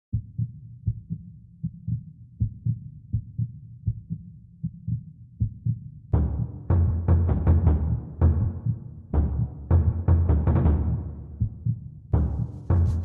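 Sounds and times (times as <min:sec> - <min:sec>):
heartbeat thumps: 0:00.1 - 0:13.0.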